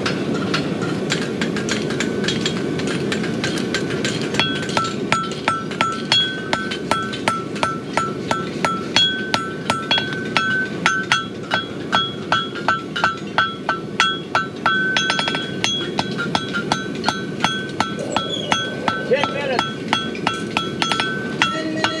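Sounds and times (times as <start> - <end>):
hammer striking horseshoe on anvil: 0.4 - 22.0.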